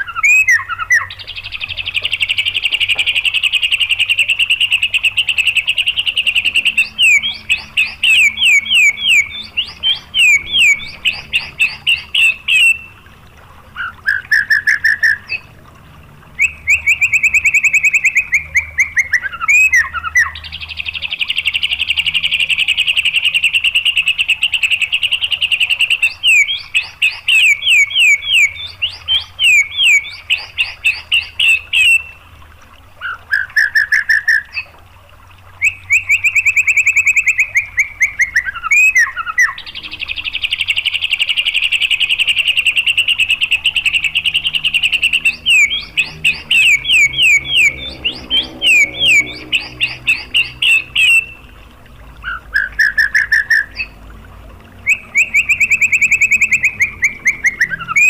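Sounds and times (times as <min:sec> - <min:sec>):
bird song trills and whistles: 0:00.0 - 0:13.1, 0:13.8 - 0:15.5, 0:16.4 - 0:32.2, 0:33.0 - 0:34.7, 0:35.6 - 0:51.6, 0:52.2 - 0:54.0, 0:54.8 - 0:58.0.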